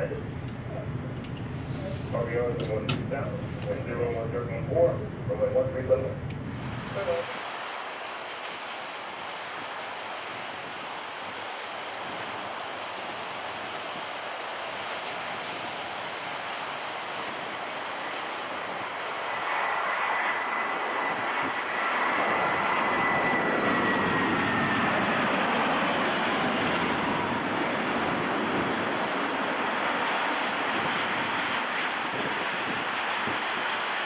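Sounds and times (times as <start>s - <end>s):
high turbine whine: 0.0s - 34.0s
jet airliner passing: 0.0s - 34.0s.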